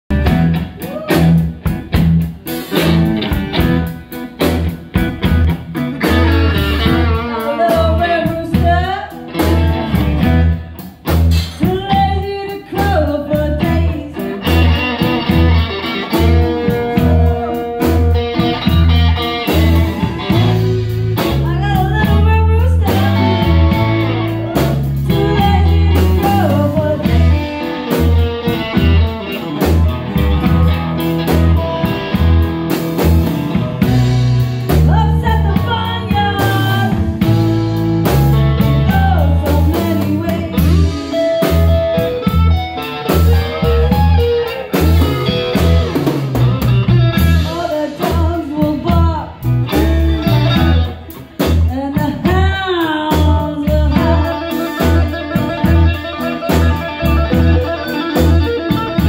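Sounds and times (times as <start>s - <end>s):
blues band playing: 0.0s - 59.0s
drum and bass beat: 0.1s - 59.0s
electric lead guitar lines: 0.1s - 59.0s.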